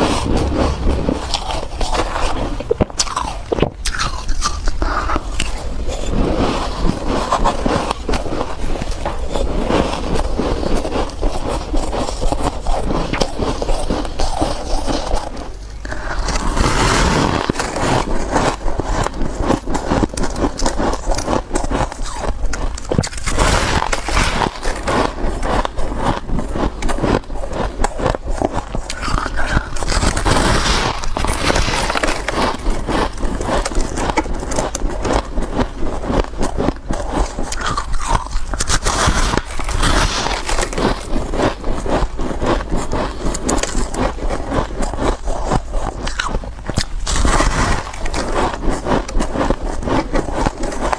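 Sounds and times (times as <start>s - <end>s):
person crunching ice: 0.0s - 50.9s.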